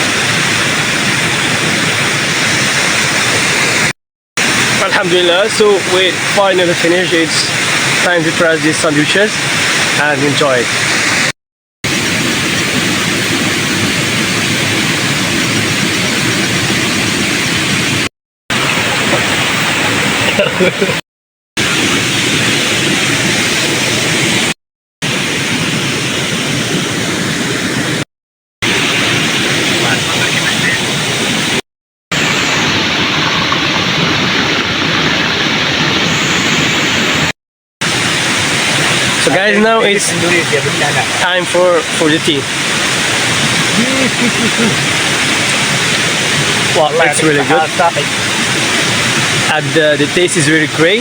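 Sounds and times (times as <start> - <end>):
waterfall rushing: 0.0 - 11.3, 11.9 - 21.0, 28.6 - 51.0.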